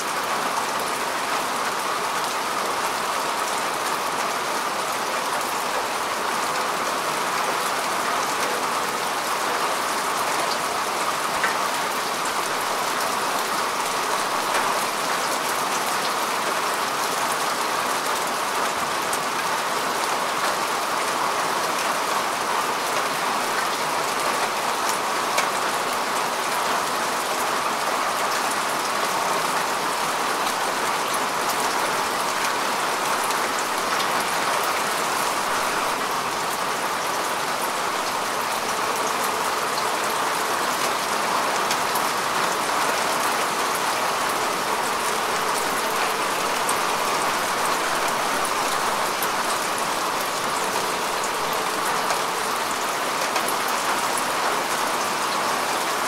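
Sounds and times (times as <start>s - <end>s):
rain falling on grass: 0.0s - 56.0s.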